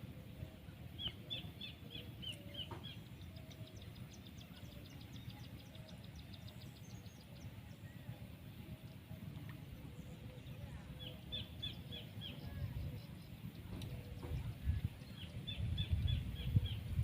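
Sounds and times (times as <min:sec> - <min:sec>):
birds calling with high notes: 0:00.0 - 0:17.0
low steady outdoor rumble: 0:00.0 - 0:17.0.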